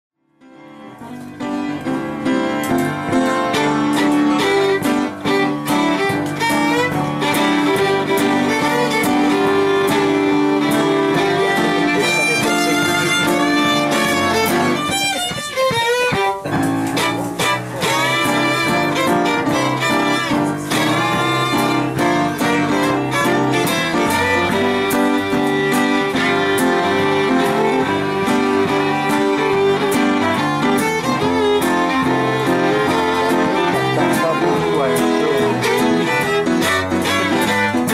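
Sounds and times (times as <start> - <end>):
piano: 0.2 - 37.9
acoustic guitar: 0.3 - 37.9
fiddle playing swing tune: 0.5 - 37.9.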